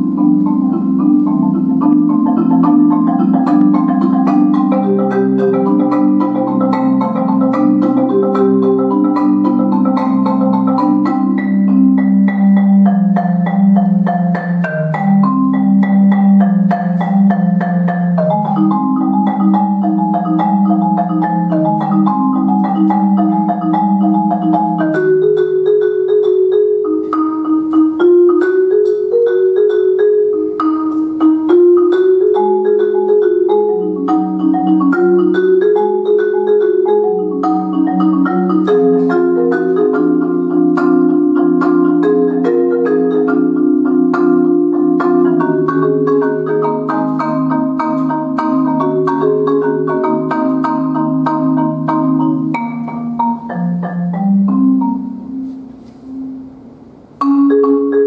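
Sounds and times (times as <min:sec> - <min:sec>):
marimba played with mallets: 0:00.0 - 0:58.0.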